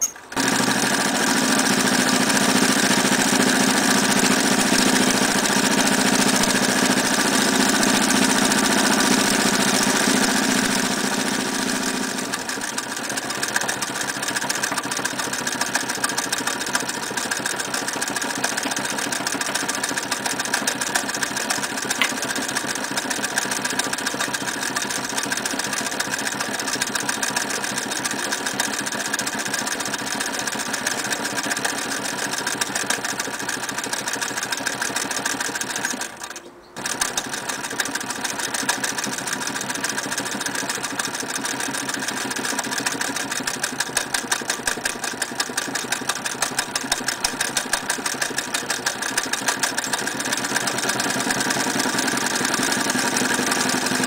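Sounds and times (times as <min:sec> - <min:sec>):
sewing machine stitching: 0:00.0 - 0:54.0.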